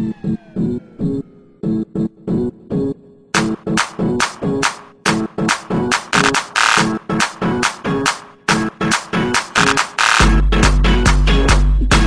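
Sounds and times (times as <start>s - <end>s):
electronic dance track: 0.0s - 12.0s.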